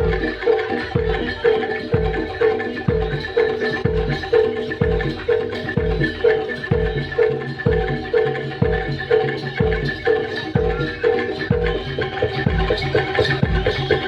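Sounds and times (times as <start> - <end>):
deep drum beat: 0.0 - 14.0
metal percussion ringing: 0.0 - 14.0.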